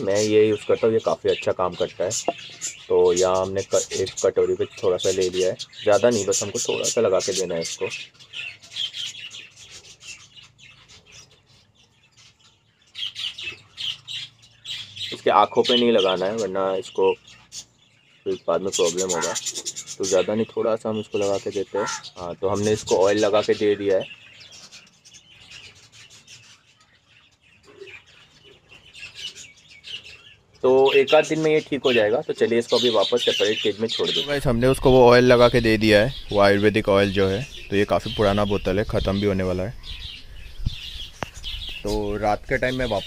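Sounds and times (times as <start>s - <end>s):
budgerigars chirping and squawking: 0.0s - 43.0s.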